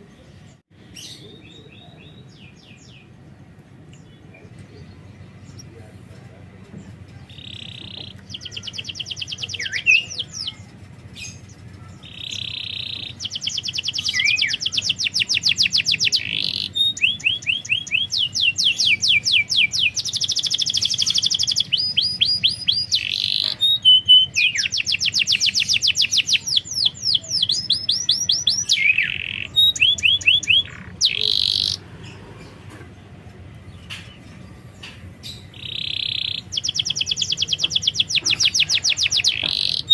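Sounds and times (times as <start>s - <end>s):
canary singing trills: 6.7s - 39.9s.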